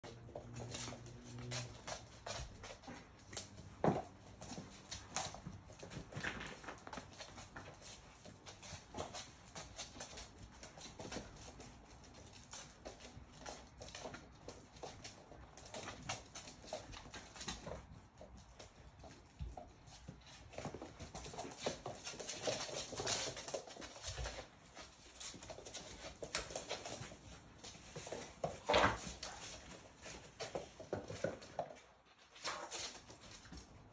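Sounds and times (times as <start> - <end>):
puppy claws clicking on floor: 0.0 - 33.9.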